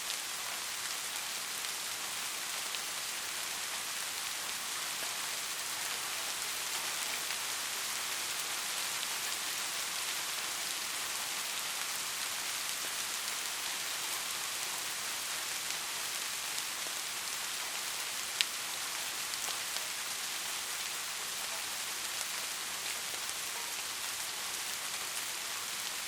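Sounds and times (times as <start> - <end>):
soft rain falling: 0.0 - 26.0.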